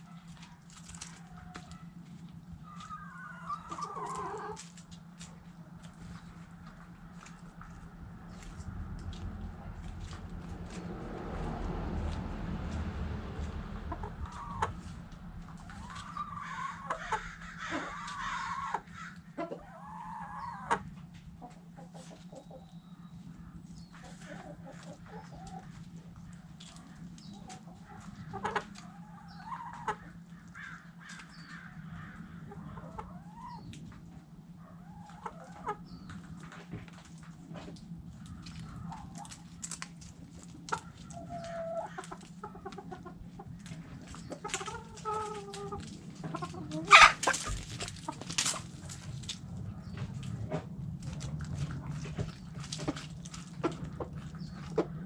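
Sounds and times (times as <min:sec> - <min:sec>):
hens clucking: 0:00.0 - 0:55.0
steady low hum: 0:00.0 - 0:55.0.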